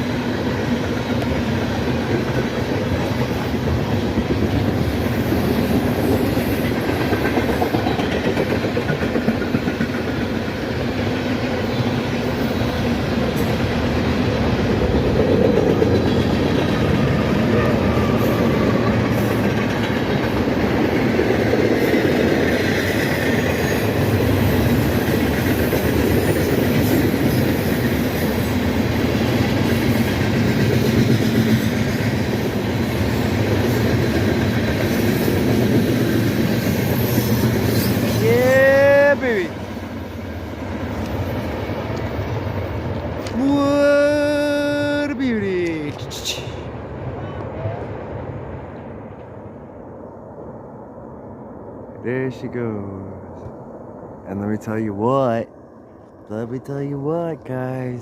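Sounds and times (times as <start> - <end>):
train wheels on rails: 0.0 - 49.7.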